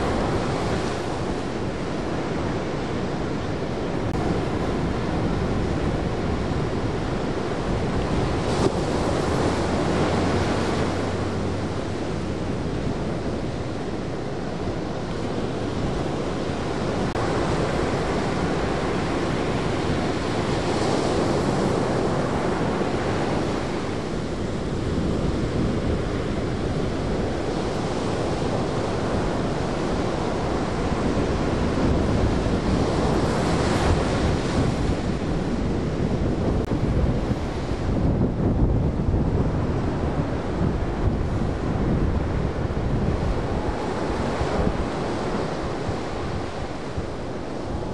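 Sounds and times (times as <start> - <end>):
ocean waves breaking: 0.0 - 47.9
wind buffeting microphone: 0.0 - 47.9.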